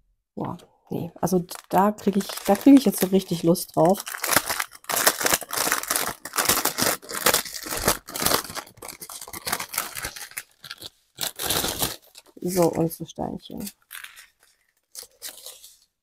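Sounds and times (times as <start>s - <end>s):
plastic packaging crinkling: 1.2s - 16.0s.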